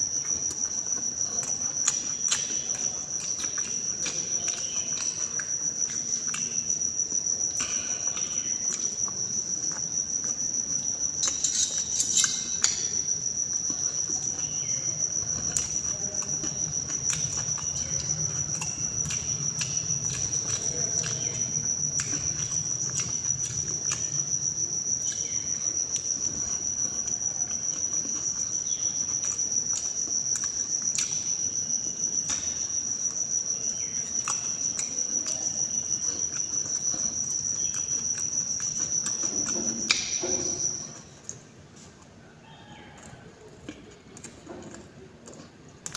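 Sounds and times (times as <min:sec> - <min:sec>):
high-pitched insect trill: 0:00.0 - 0:41.5.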